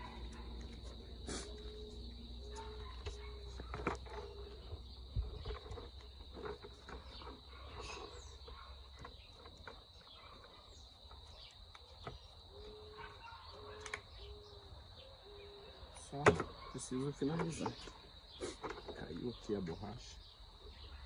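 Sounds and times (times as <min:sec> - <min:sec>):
high-pitched insect chirr: 0:00.0 - 0:09.4, 0:10.8 - 0:19.3.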